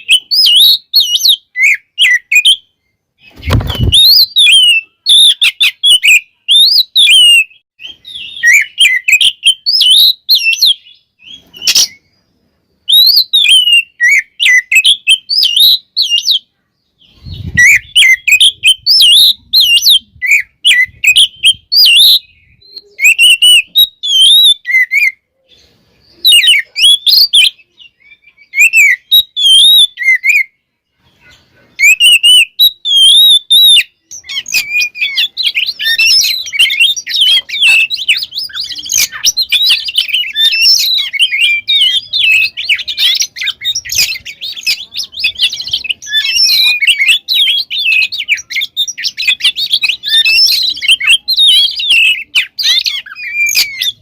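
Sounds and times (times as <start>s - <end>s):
bird singing whistled phrases: 0.0s - 12.2s, 12.8s - 30.6s, 31.2s - 54.0s.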